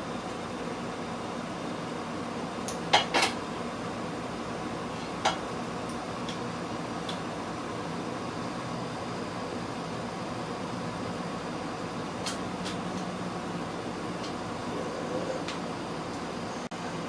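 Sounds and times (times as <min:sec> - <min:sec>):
steady fan hum: 0:00.0 - 0:17.0.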